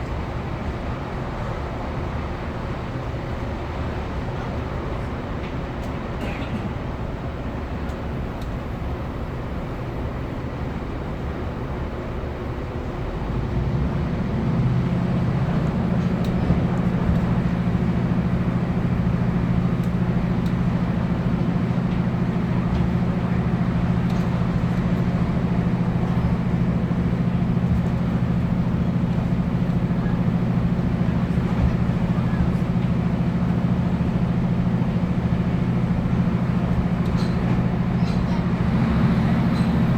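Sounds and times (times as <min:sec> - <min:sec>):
train diesel engine drone: 0:00.0 - 0:39.9
train running noise: 0:00.0 - 0:39.9.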